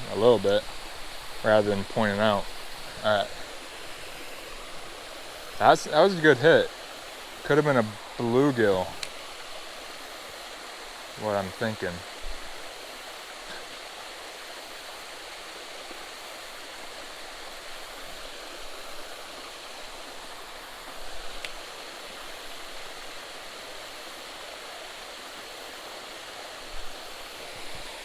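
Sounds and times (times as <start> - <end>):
waterfall splashing into pool: 0.0 - 28.0.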